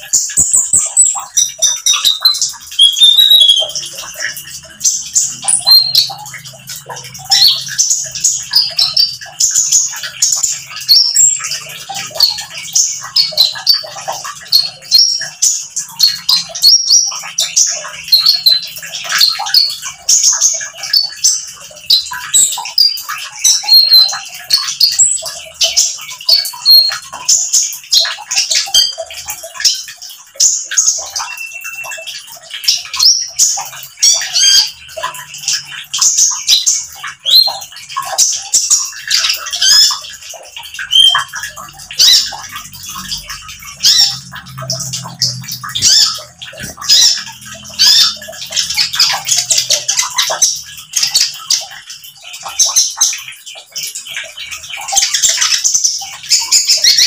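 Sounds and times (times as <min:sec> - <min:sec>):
bird twittering chirps: 0:00.0 - 0:57.0.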